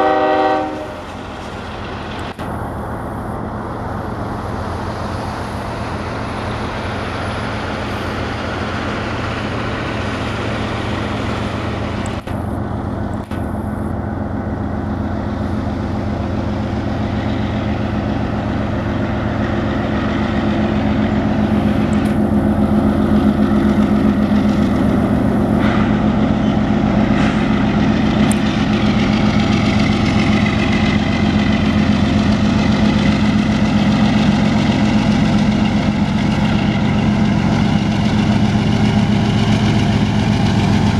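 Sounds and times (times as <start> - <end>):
diesel locomotive engines droning: 0.0 - 40.9.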